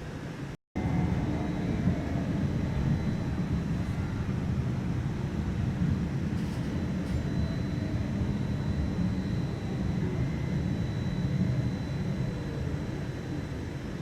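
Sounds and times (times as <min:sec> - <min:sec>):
faint high whine: 0:00.0 - 0:14.0
streetcar rumbling on track: 0:00.2 - 0:14.0.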